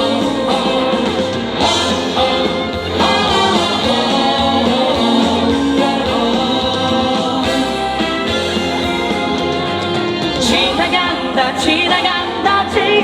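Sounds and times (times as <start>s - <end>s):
chorus of voices singing: 0.0s - 13.0s
live band music: 0.0s - 13.0s.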